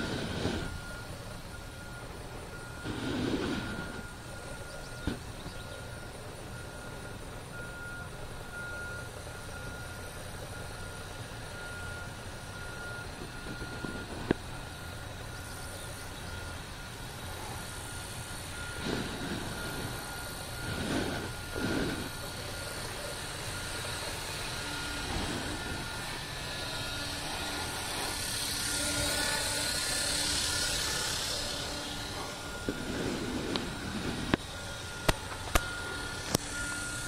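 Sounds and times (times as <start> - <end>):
helicopter rotor noise: 0.0 - 37.0
high whine: 0.0 - 37.0.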